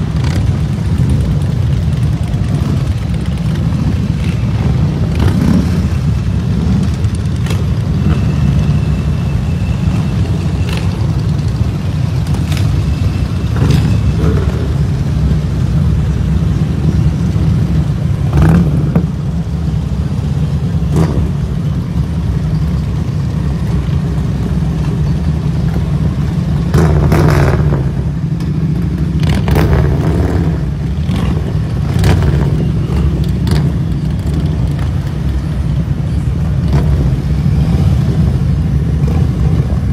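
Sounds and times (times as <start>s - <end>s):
motorcycles riding past: 0.0s - 19.5s, 20.1s - 39.9s.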